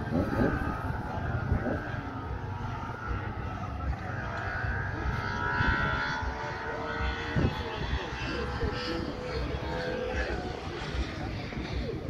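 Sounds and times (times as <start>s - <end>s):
distant engine running: 0.0s - 12.0s
faint voices: 0.0s - 12.0s.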